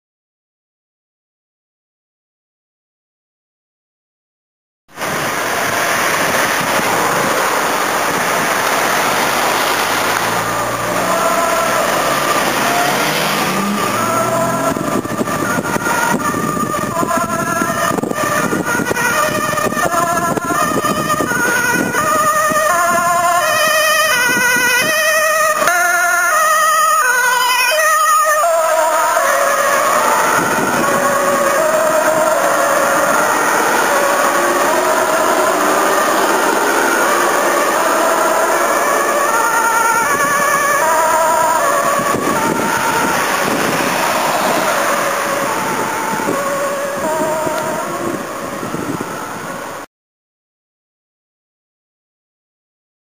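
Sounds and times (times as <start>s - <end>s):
vehicle road and wind noise: 4.9s - 49.9s
ambulance two-tone siren: 5.0s - 49.9s.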